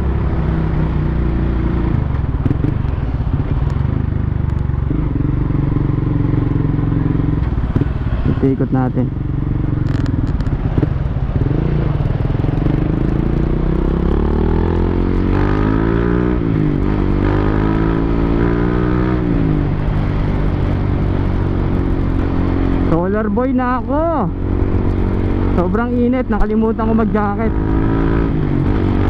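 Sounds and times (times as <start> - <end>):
motorcycle engine revving through gears: 0.0 - 29.0.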